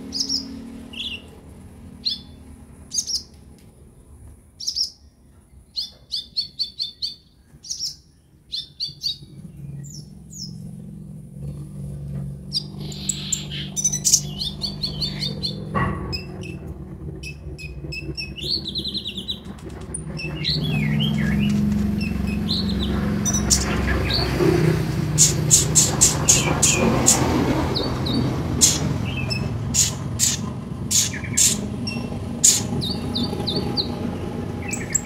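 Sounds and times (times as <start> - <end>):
sunbird chirping: 0.0 - 3.4, 4.6 - 11.6, 12.4 - 35.0.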